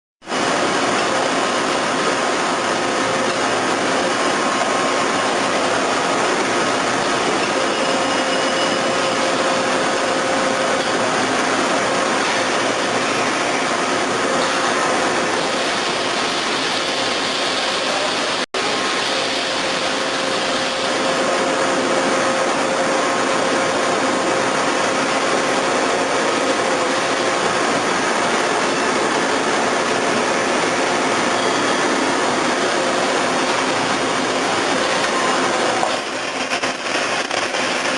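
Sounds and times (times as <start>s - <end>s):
milling machine running: 0.2s - 37.9s.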